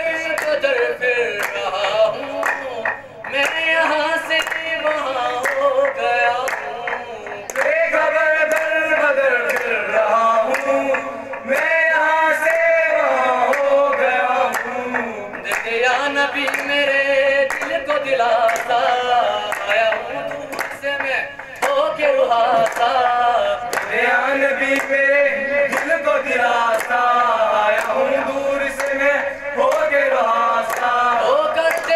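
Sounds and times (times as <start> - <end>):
hand claps: 0.0 - 31.9
men singing: 0.0 - 31.9.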